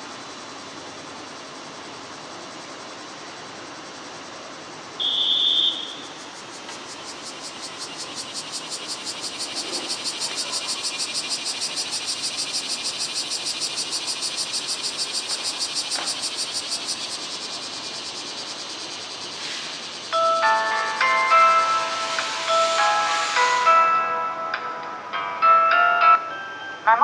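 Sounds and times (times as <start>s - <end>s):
cicada buzzing: 0.0s - 24.0s.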